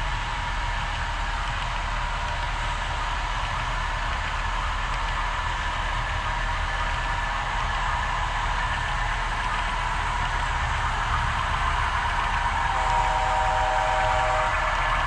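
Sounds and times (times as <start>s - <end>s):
model train humming and whining: 0.0s - 15.0s.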